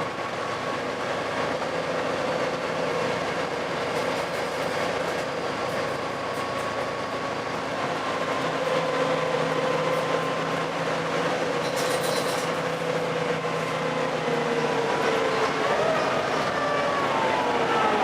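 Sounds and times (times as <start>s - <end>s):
bus diesel engine whine: 0.0s - 18.0s.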